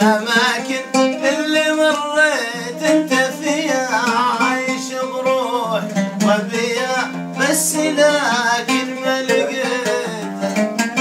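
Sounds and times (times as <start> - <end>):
man singing: 0.0 - 11.0
plucked oud: 0.0 - 11.0.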